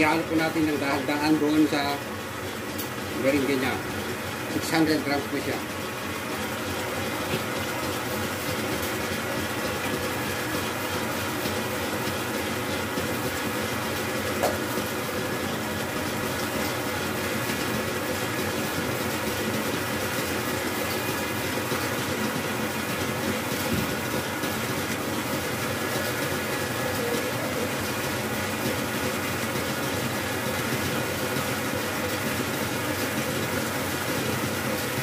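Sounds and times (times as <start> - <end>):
stand mixer whisking: 0.0 - 35.0.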